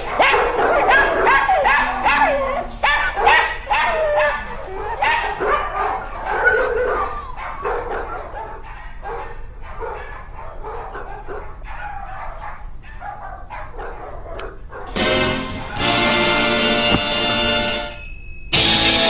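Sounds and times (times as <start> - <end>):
dogs barking and yelping: 0.0 - 16.3.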